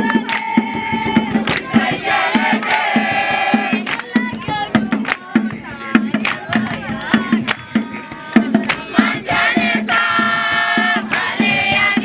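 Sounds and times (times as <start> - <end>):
group of voices singing: 0.0 - 12.0
sharp claps on the beat: 0.0 - 12.0
steady beat: 0.0 - 12.0.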